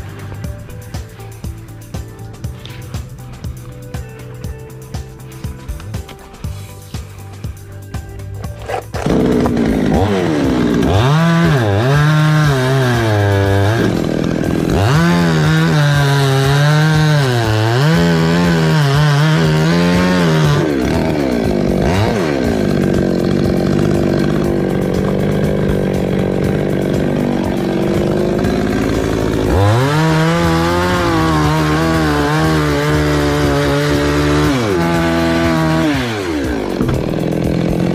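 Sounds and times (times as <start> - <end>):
chainsaw revving and cutting: 0.0 - 37.9.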